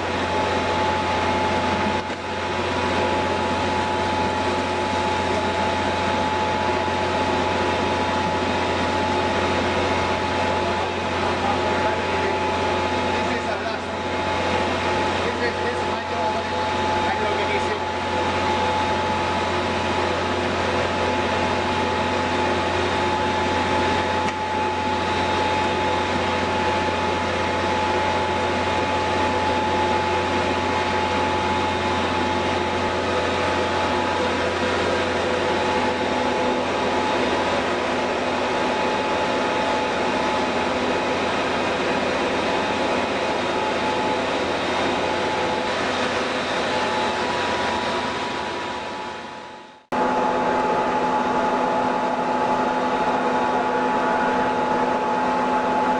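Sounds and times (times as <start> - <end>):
machinery drone with low hum: 0.0 - 55.9
steady whining tones: 0.0 - 55.9.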